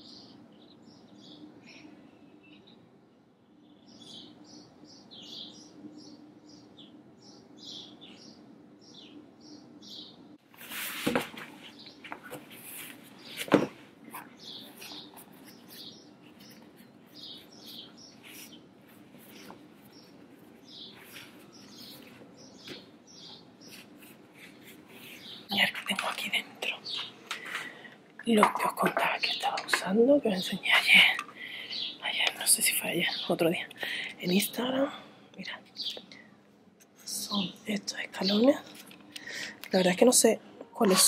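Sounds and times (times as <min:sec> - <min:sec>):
small birds chirping: 0:00.0 - 0:10.4, 0:11.6 - 0:41.0.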